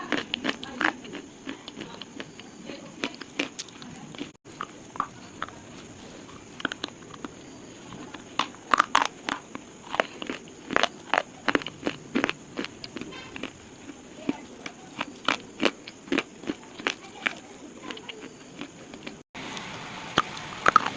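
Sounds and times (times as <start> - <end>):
slate crunching and snapping: 0.0 - 19.2.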